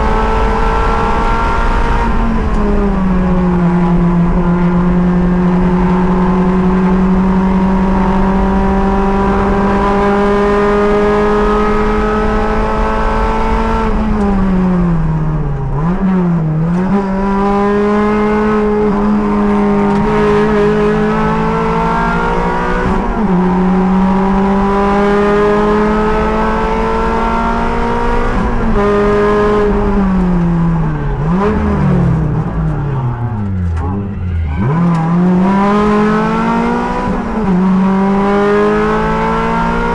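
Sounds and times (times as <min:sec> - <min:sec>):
engine downshifts: 0:00.0 - 0:39.9
race car engine accelerating: 0:00.0 - 0:39.9.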